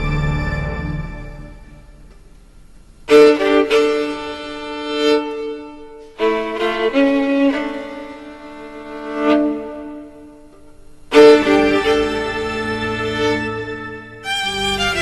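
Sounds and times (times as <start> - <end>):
violin sustained notes: 0.0 - 2.2, 3.1 - 15.0.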